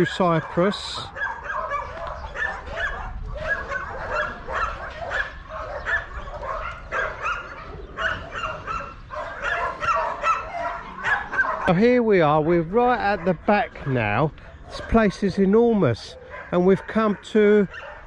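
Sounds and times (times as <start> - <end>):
dogs barking: 0.0 - 18.0.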